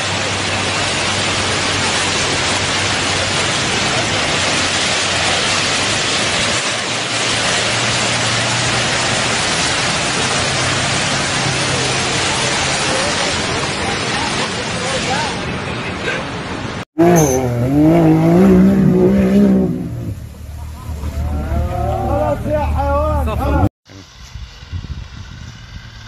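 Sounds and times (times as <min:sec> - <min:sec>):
surf and churning seawater: 0:00.0 - 0:23.7.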